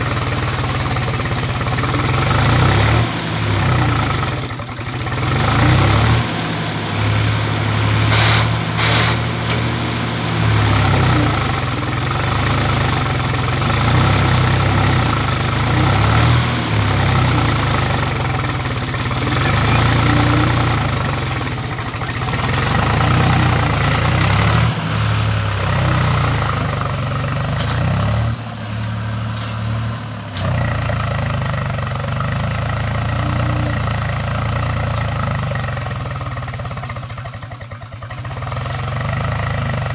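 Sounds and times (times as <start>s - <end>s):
tractor engine rumbling: 0.0s - 39.9s.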